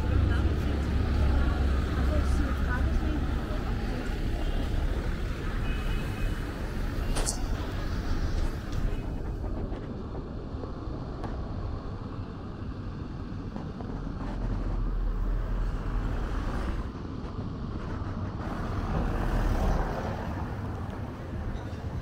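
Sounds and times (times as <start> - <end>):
low traffic rumble: 0.0 - 22.0
street traffic hum: 0.0 - 22.0.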